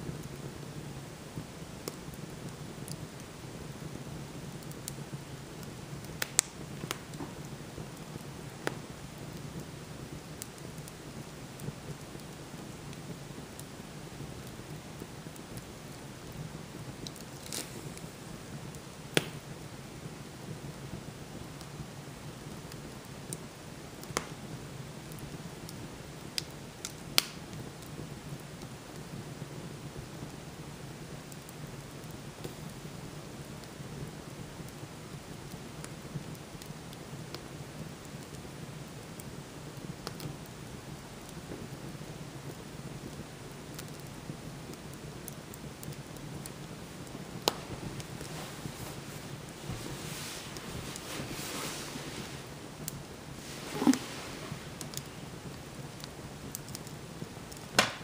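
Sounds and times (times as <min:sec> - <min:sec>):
fire crackling in a stove: 0:00.0 - 0:58.0.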